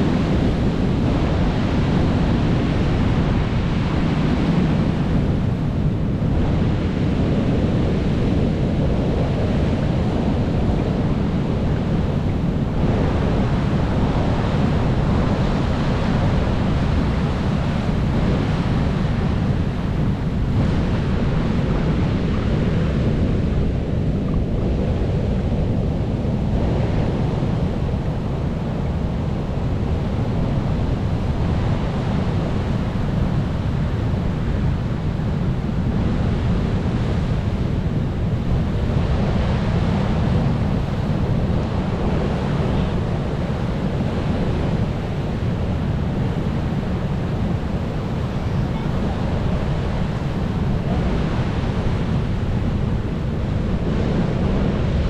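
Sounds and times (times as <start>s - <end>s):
sea waves breaking on shore: 0.0s - 55.0s.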